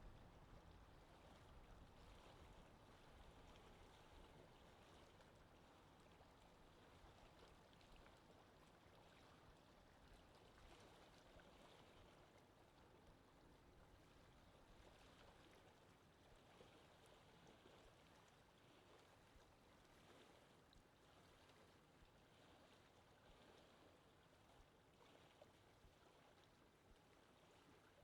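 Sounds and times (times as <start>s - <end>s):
soft underwater watery wash: 0.0s - 28.0s.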